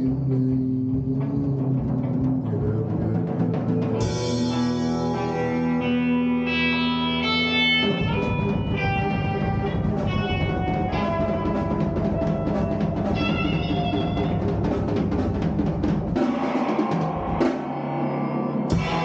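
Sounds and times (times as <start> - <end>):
live rock band: 0.0 - 19.0
sustained guitar tones: 0.0 - 19.0.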